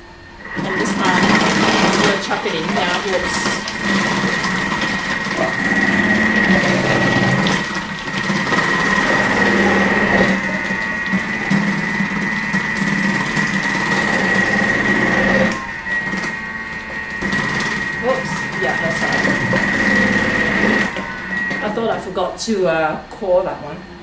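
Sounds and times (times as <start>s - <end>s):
food processor motor whine: 0.0s - 22.4s.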